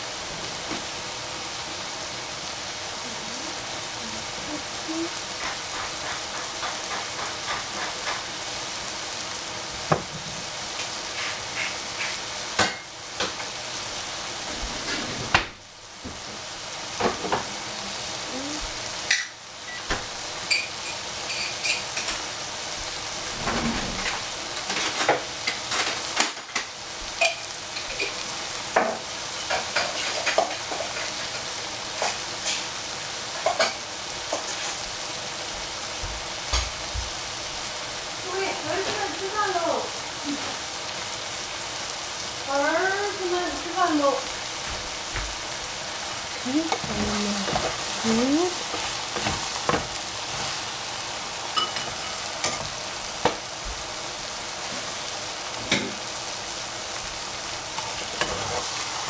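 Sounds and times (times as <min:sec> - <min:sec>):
noodles sizzling in pan: 0:00.0 - 0:59.0.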